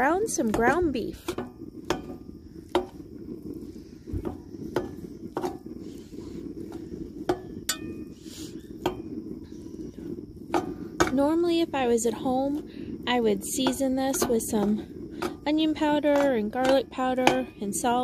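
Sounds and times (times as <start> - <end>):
low rumble: 0.0 - 18.0
metal spatula scraping skillet: 0.4 - 11.2, 12.6 - 18.0.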